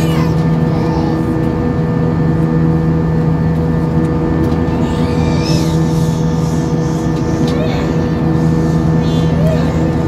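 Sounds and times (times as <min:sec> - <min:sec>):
aircraft cabin drone: 0:00.0 - 0:10.0.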